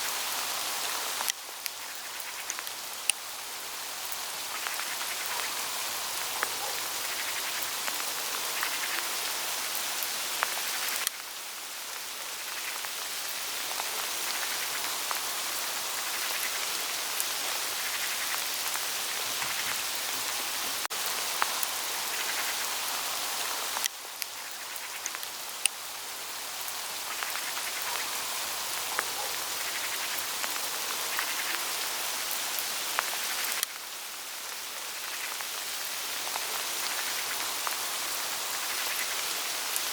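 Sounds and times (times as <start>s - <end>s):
hail hissing on leaves: 0.0s - 39.9s.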